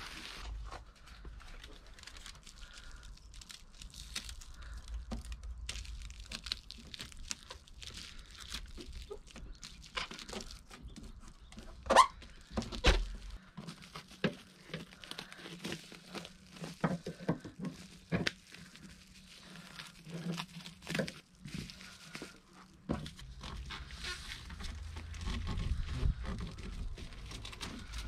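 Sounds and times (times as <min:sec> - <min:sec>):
bubble insulation crinkling: 0:00.0 - 0:28.0.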